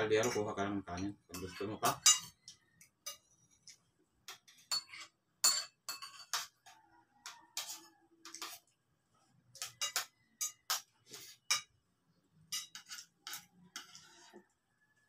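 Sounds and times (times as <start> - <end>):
cutlery clinking on plates: 0.0 - 8.7, 9.5 - 11.7, 12.5 - 14.4.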